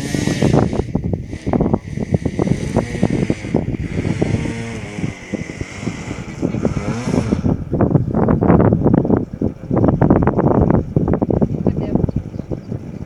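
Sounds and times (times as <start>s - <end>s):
steady high whine: 0.0s - 11.8s
wind buffeting microphone: 0.0s - 13.0s.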